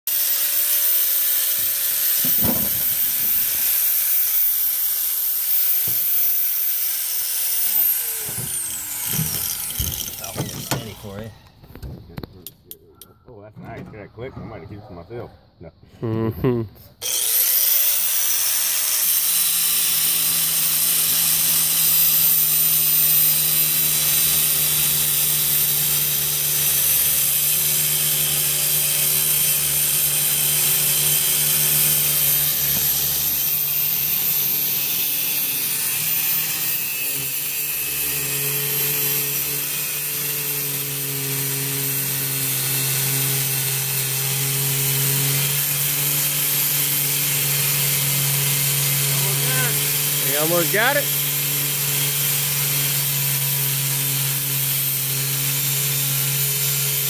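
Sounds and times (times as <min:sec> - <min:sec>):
electric power tool cutting lock: 0:00.1 - 0:11.2, 0:17.0 - 0:57.0.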